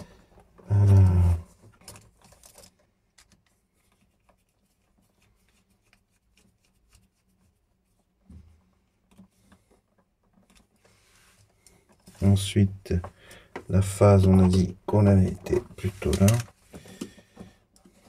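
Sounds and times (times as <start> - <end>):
wires and metal frame handled: 0.0 - 18.0.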